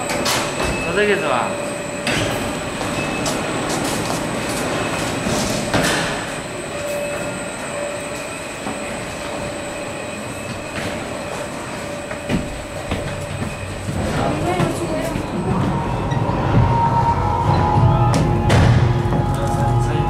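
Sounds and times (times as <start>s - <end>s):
tunnel car rumbling on track: 0.0s - 20.0s.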